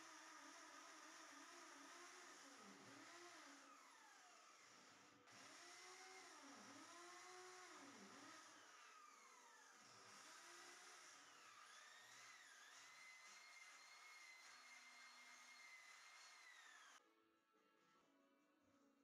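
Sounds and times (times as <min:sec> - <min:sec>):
electric drill boring into wall: 0:00.0 - 0:17.0.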